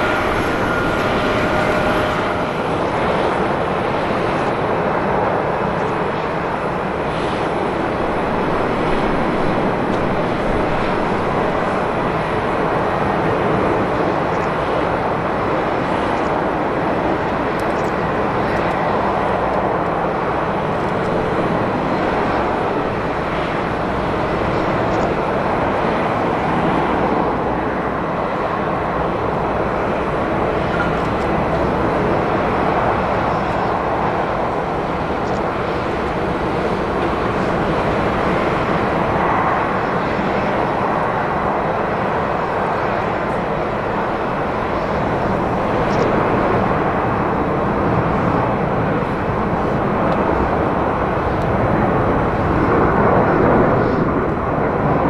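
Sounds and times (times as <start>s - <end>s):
jet engine rushing: 0.0s - 55.0s.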